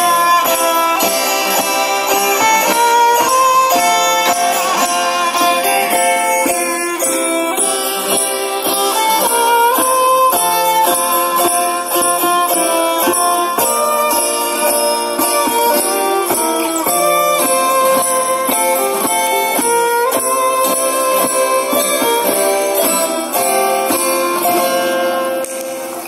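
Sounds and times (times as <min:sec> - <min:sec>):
folk ensemble of violins and guitars: 0:00.0 - 0:26.0.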